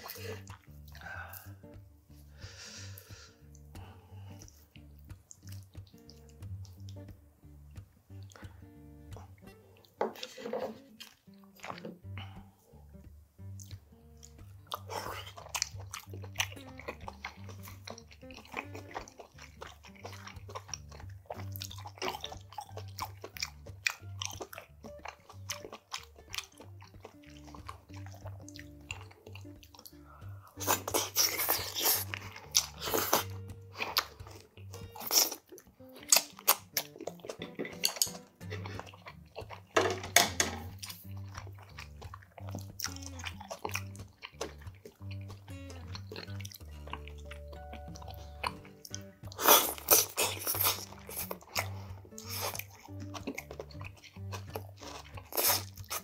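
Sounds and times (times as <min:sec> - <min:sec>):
quiet background music: 0:00.0 - 0:56.0
wet chewing and crunching: 0:00.0 - 0:56.0.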